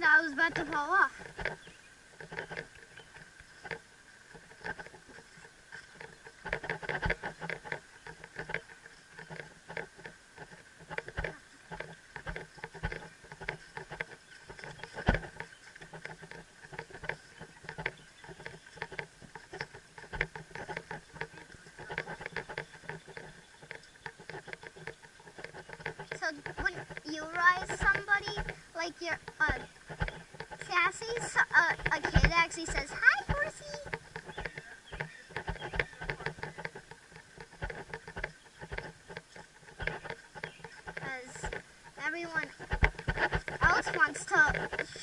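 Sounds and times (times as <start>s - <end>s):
camera rattling against helmet: 0.0s - 45.0s.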